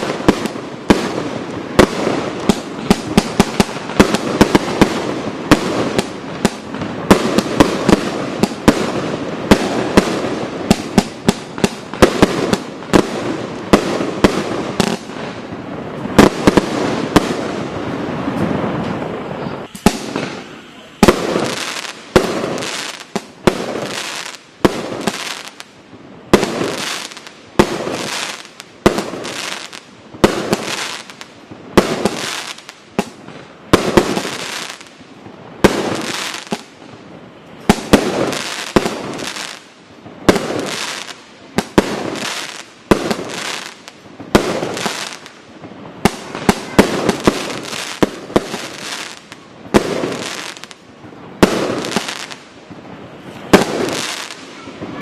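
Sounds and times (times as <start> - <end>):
fireworks bangs: 0.0 - 55.0
fireworks crackling and hissing: 0.0 - 55.0.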